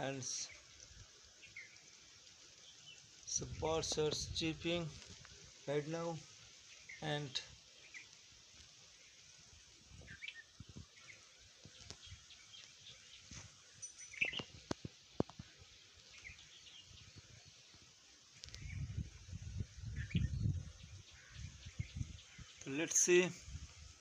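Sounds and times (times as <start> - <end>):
birds chirping: 0.0 - 4.9, 5.7 - 8.2, 8.8 - 23.4
faint outdoor hiss: 0.0 - 24.0.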